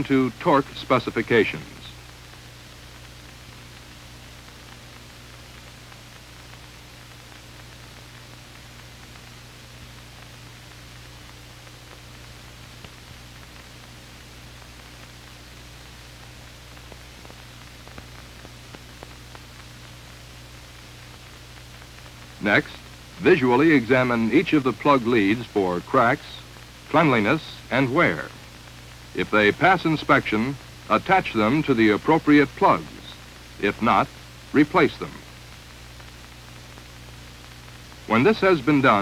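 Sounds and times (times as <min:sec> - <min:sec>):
film soundtrack hiss and hum: 0:00.0 - 0:39.0.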